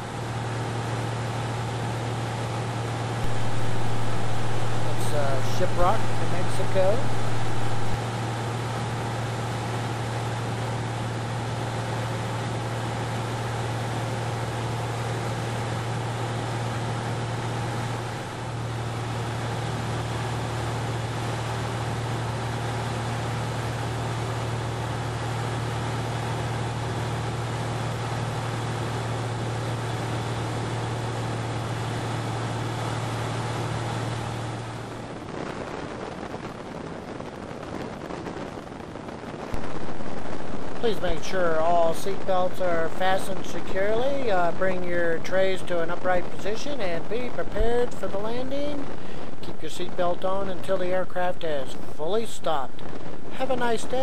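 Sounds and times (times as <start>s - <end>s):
airplane engine droning: 0.0s - 54.0s
rushing noise: 0.0s - 54.0s.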